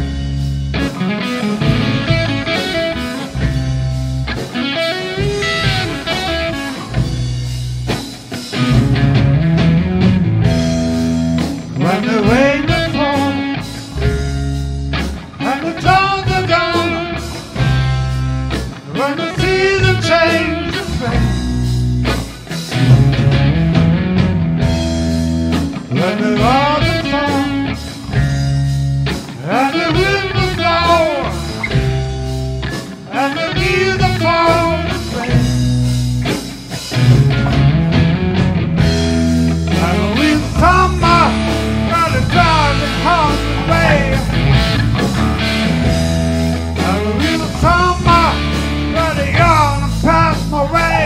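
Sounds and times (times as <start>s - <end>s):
blues-rock band playing: 0.0s - 51.0s
electric guitar with bent notes: 0.0s - 51.0s.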